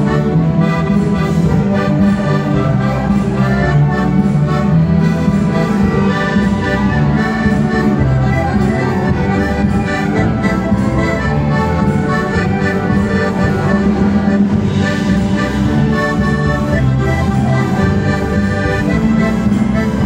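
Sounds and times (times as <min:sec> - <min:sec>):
accordion ensemble playing folk music: 0:00.0 - 0:20.0.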